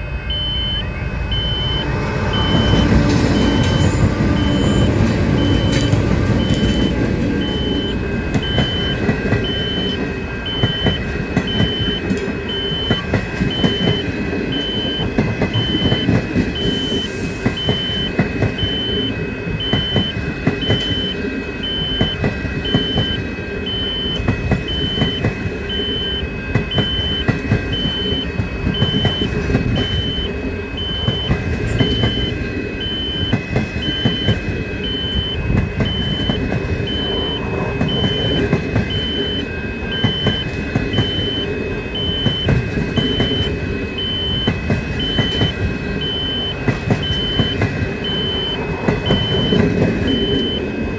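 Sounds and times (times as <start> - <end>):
train rumbling and clattering: 0.0 - 50.9
two-tone electronic warning beeps: 0.0 - 50.9.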